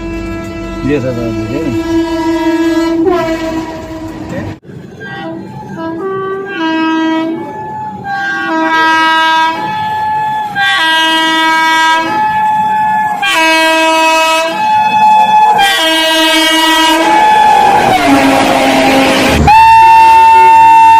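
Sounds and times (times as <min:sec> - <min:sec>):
train passing rush: 0:00.0 - 0:20.9
two-tone train horn: 0:00.0 - 0:20.9.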